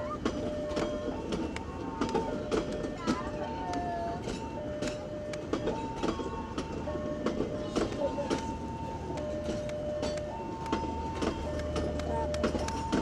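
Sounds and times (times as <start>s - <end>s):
train wheels clacking on rails: 0.0s - 13.0s.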